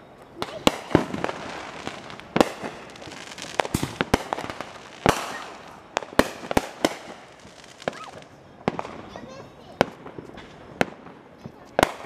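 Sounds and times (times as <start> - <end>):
fireworks crackling hiss: 0.3 - 12.0
fireworks bangs: 0.4 - 12.0.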